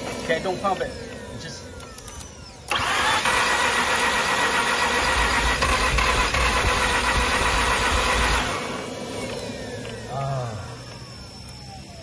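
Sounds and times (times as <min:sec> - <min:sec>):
engine cranking by starter: 0:00.0 - 0:12.0.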